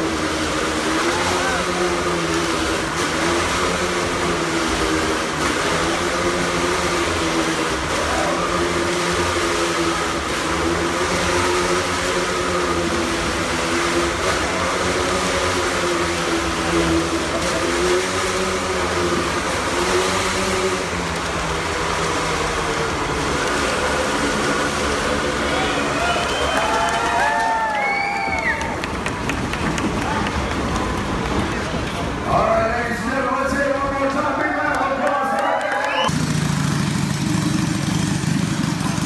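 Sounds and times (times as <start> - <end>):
stunt vehicle engine circling: 0.0 - 39.0.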